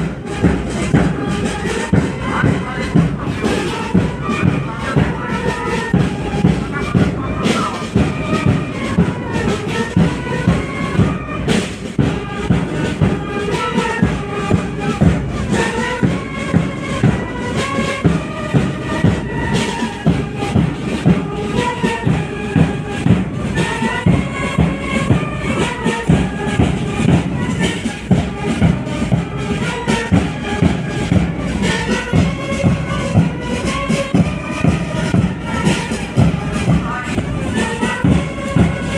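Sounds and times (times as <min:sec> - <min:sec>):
military band playing a march: 0:00.0 - 0:38.9
steady drum beat: 0:00.0 - 0:38.9.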